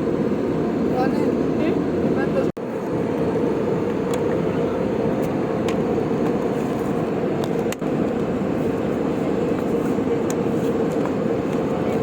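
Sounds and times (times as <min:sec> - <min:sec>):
airplane cabin noise: 0:00.0 - 0:12.0.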